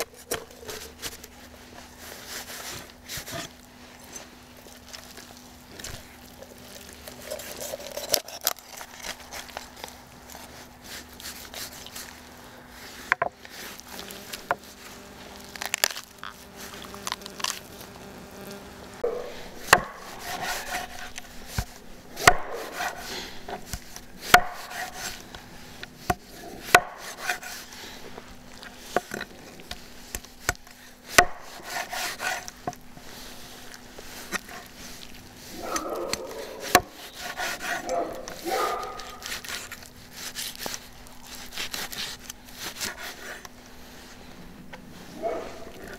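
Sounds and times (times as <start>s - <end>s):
meat cutting and rubbing: 0.0s - 17.9s, 19.0s - 45.9s.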